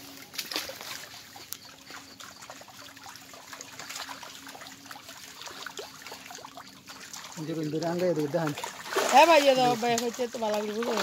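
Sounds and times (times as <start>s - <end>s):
faint steady hum: 0.0s - 11.0s
fish thrashing and splashing water: 0.0s - 11.0s.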